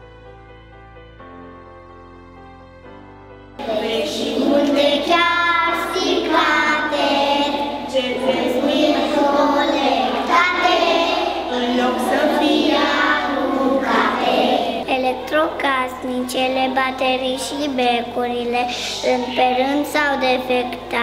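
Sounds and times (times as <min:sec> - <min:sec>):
young children singing: 0:03.6 - 0:21.0.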